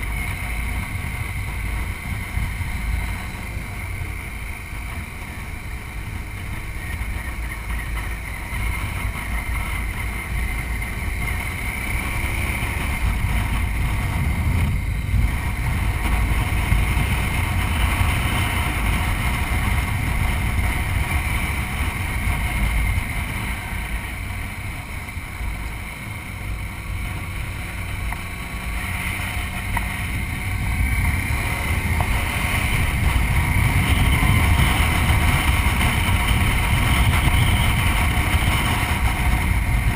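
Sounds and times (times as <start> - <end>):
motorcycle engine: 0.0 - 39.9
wind buffeting camera: 0.0 - 39.9.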